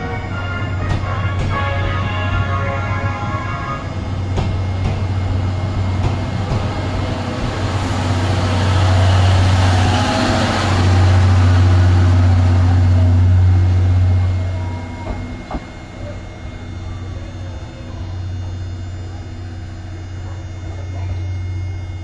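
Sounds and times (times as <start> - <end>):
steady low drone: 0.0 - 22.0
train wheels running on rails: 0.0 - 22.0.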